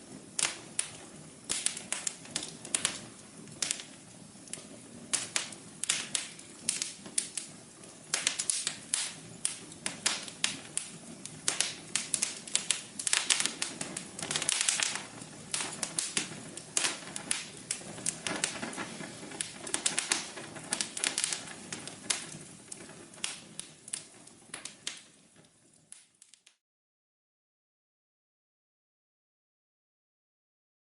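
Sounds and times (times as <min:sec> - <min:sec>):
wood fire crackling: 0:00.0 - 0:26.6.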